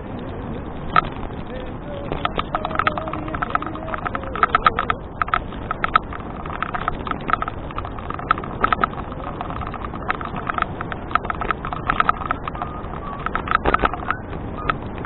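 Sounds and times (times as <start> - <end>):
bicycle rattling and clicking: 0.0 - 15.0
tyre noise: 0.0 - 15.0
wind rush: 0.0 - 15.0.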